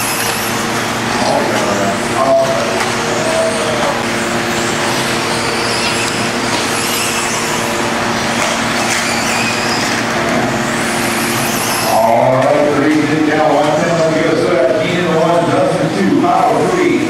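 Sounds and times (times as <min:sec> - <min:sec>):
rc car motors whining: 0:00.0 - 0:15.8
low hum: 0:00.0 - 0:16.0.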